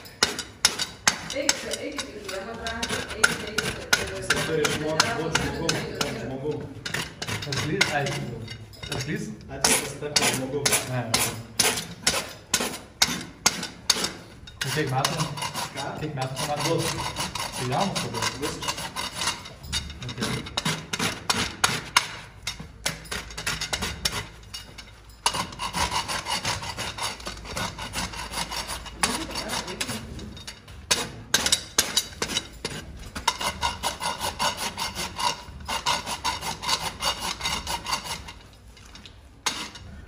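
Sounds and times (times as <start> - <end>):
hoof rasp filing hoof: 0.0 - 38.5.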